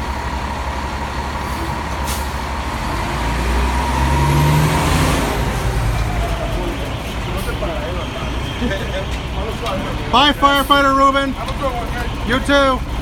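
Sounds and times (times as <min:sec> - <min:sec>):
fire engine revving: 0:00.0 - 0:13.0.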